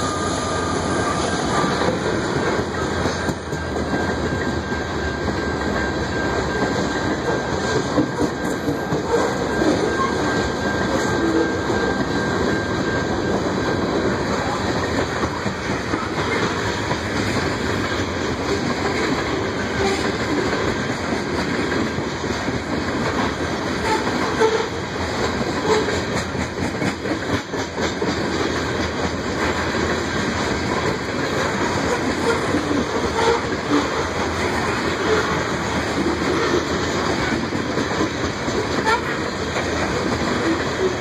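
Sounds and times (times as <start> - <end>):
train wheels rolling on rails: 0.0 - 41.0.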